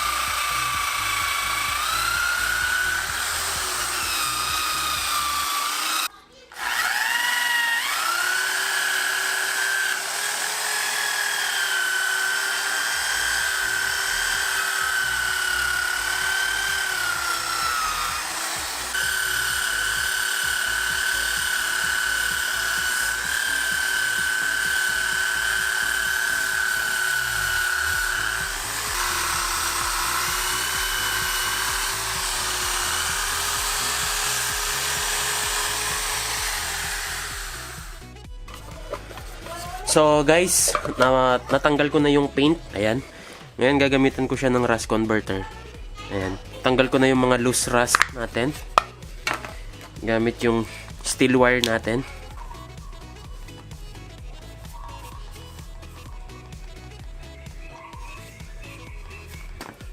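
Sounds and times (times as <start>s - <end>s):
power drill wire brush on metal: 0.0s - 43.0s, 46.8s - 52.3s.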